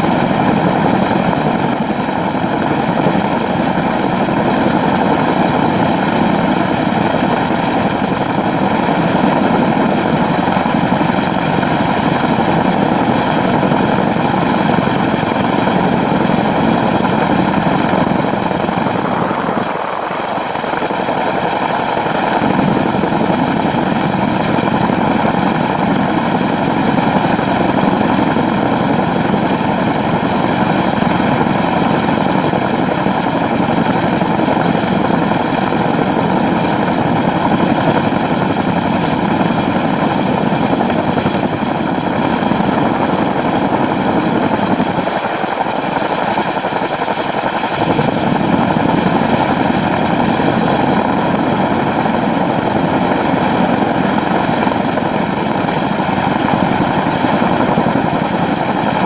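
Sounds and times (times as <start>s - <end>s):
helicopter rotor noise: 0.0s - 59.0s
turbine whine: 0.0s - 59.0s.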